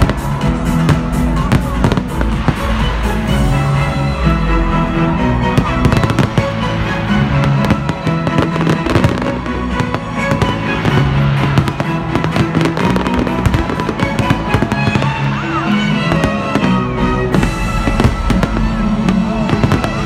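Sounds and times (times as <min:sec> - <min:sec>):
fireworks bangs and crackles: 0:00.0 - 0:20.0
loud music with low notes: 0:00.0 - 0:20.0.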